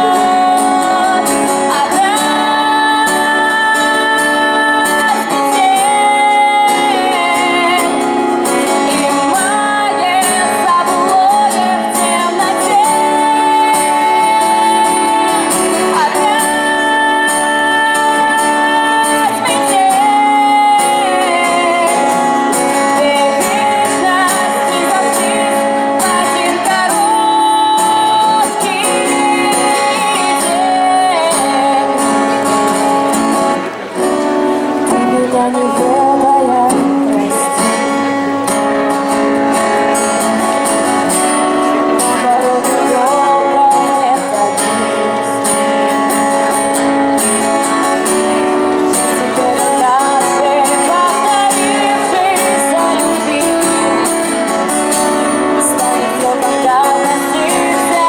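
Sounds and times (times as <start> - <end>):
acoustic guitar: 0.0 - 58.0
person singing: 0.0 - 58.0.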